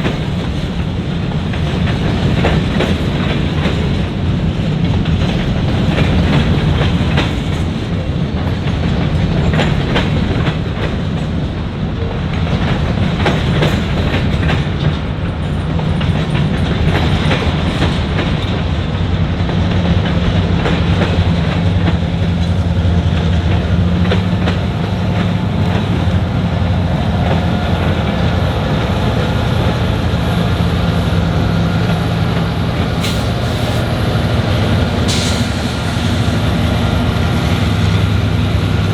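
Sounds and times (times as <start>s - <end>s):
freight train rumbling past: 0.0s - 38.9s
wheels clicking over rail joints: 0.0s - 38.9s.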